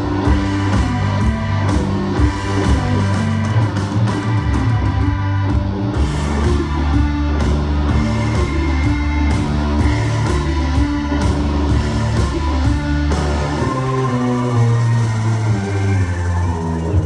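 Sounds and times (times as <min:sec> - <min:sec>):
electric guitar: 0:00.0 - 0:17.0
heavy low bass line: 0:00.0 - 0:17.0.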